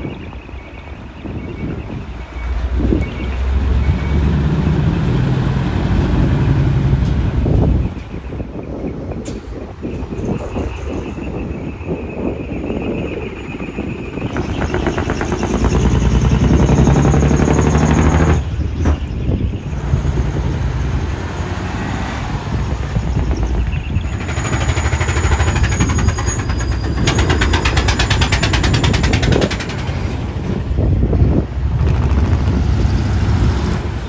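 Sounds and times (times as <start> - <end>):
dump truck diesel engines passing: 0.0 - 34.0.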